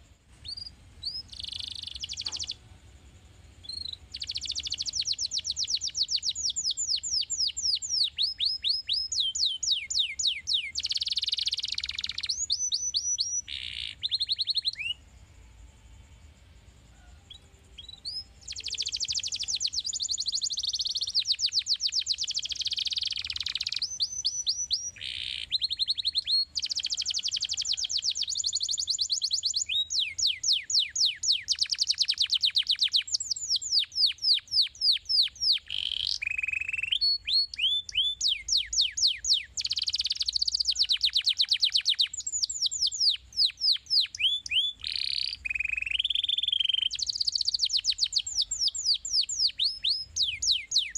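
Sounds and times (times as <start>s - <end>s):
canary singing: 0.0s - 15.2s, 17.0s - 50.9s.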